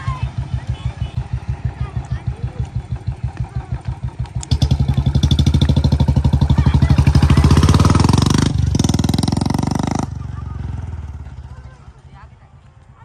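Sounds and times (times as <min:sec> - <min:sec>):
motorcycle engine thumping and revving: 0:00.0 - 0:12.1.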